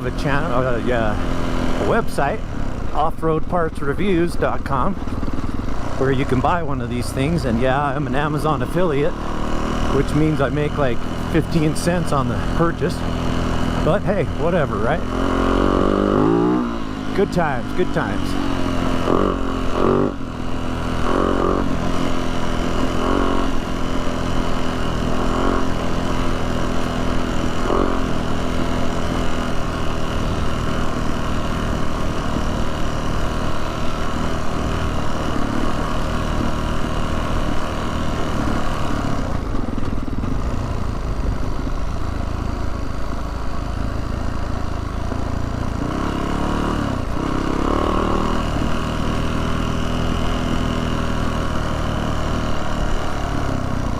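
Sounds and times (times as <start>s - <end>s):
dirt bike engine running: 0.0s - 53.9s.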